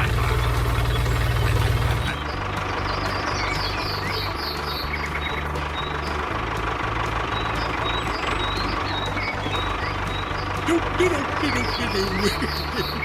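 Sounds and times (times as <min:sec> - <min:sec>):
model vehicle motor running: 0:00.0 - 0:13.0.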